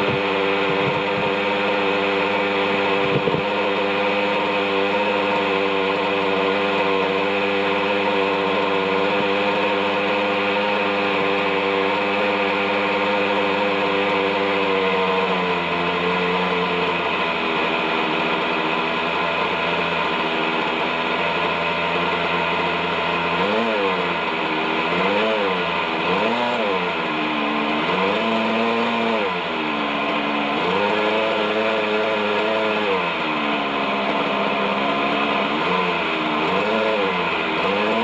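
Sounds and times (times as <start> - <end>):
model helicopter engine and rotors: 0.0 - 38.0.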